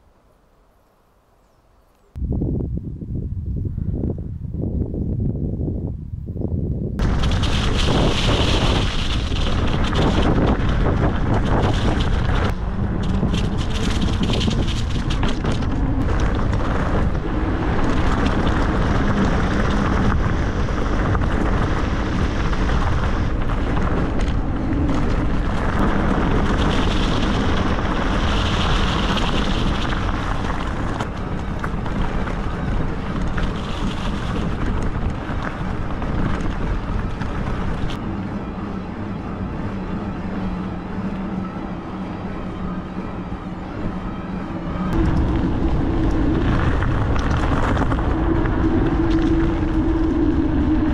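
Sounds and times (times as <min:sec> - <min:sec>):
wind on microphone: 0:02.1 - 0:50.9
tyres rolling on rough trail: 0:07.0 - 0:50.9.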